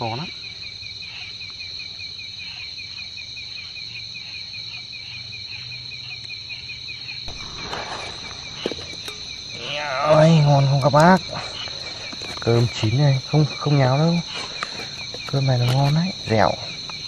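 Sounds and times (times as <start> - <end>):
insects trilling: 0.0 - 17.0
pulsing insect chirp: 0.0 - 17.0.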